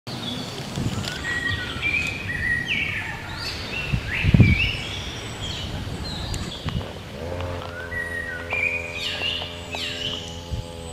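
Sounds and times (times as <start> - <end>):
birds chirping and whistling: 0.1 - 10.9.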